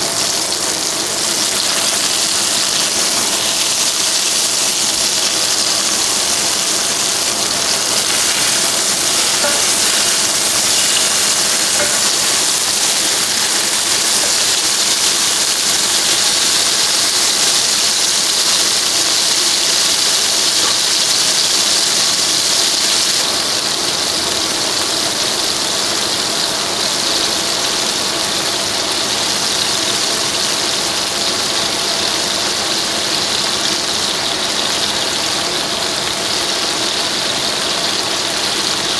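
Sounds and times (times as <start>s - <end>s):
burger patties sizzling in pan: 0.0s - 38.9s.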